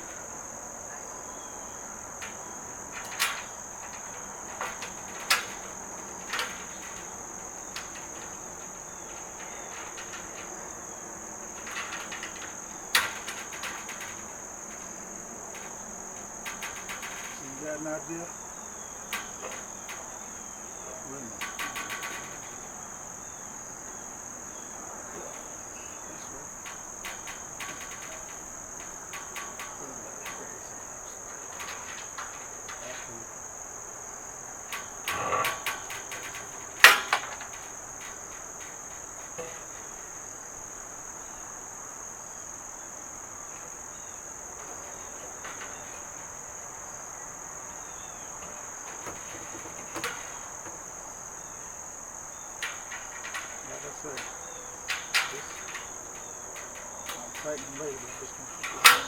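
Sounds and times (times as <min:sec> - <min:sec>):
metal panels and bolts clinking: 0:01.4 - 0:42.2, 0:43.2 - 0:59.0.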